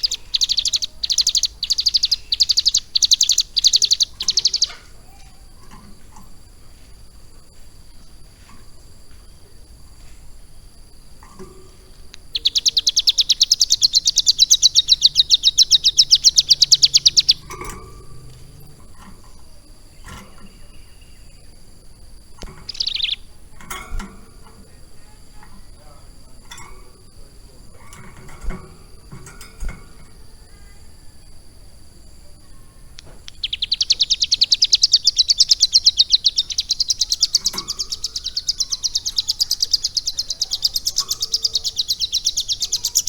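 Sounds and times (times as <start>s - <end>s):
bird short chips: 0.0s - 31.2s, 33.0s - 43.0s
bird rattling trill: 0.0s - 43.0s.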